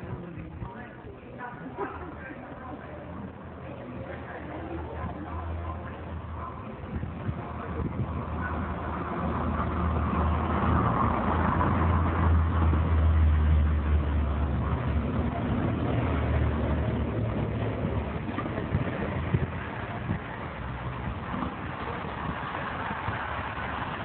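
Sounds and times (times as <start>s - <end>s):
vehicles passing by: 0.0s - 24.0s.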